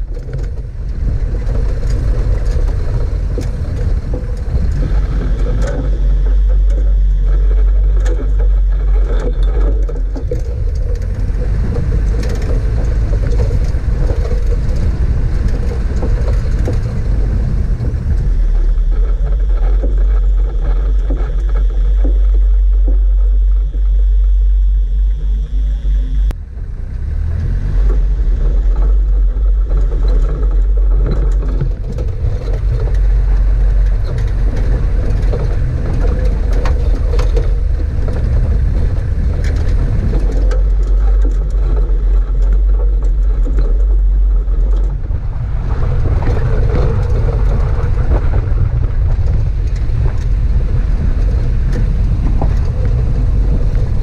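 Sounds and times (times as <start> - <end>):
vehicle knocks and rattles: 0.0 - 24.9, 26.4 - 54.0
wind and road noise rumble: 0.0 - 54.0.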